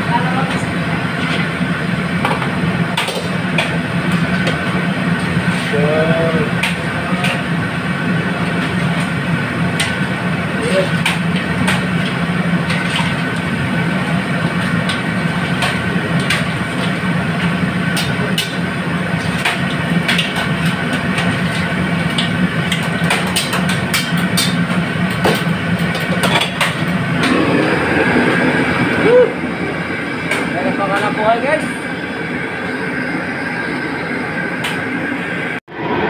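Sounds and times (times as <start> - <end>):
kitchen stove roaring: 0.0 - 36.0.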